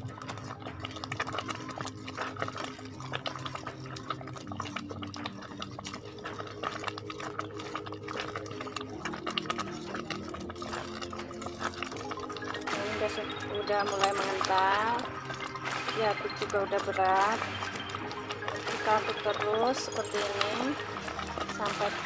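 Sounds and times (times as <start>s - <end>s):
porridge sloshing: 0.0s - 22.0s
soft background music: 0.0s - 22.0s.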